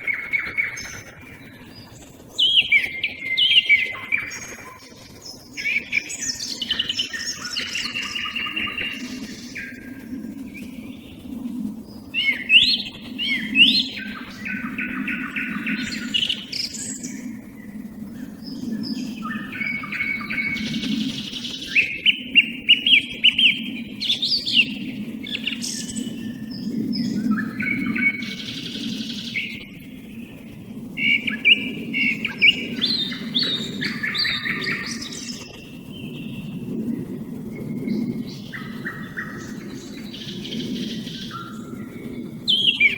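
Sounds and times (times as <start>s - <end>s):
song thrush singing: 0.0s - 9.9s, 10.5s - 30.3s, 31.0s - 36.6s, 37.5s - 42.9s
steady low hum: 0.0s - 42.9s.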